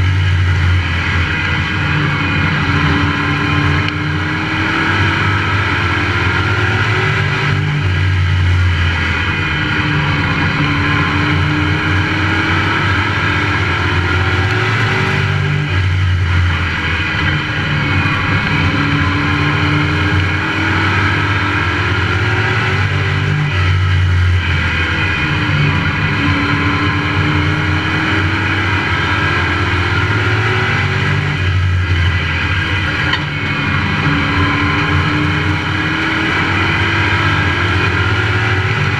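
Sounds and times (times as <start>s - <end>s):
race truck engine accelerating: 0.0s - 38.9s.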